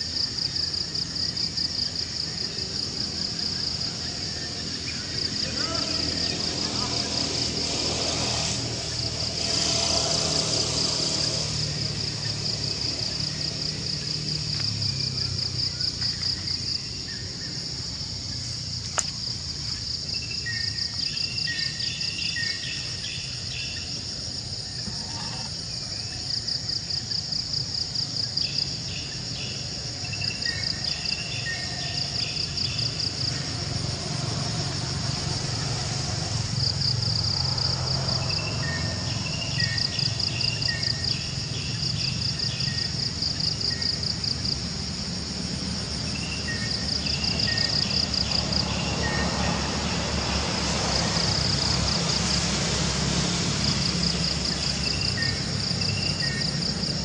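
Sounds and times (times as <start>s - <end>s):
insects pulsing chorus: 0.0s - 57.0s.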